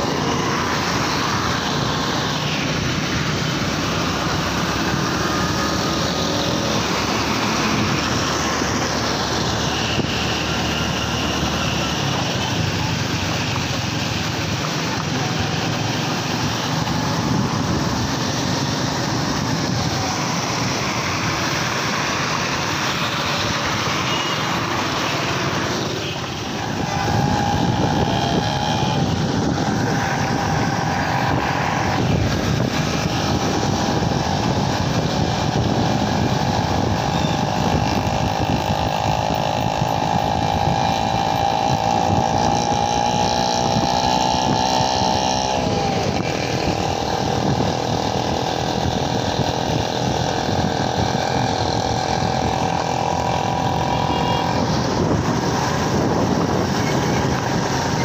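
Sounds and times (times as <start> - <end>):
road noise: 0.0 - 58.0
vehicle engine running: 0.0 - 58.0.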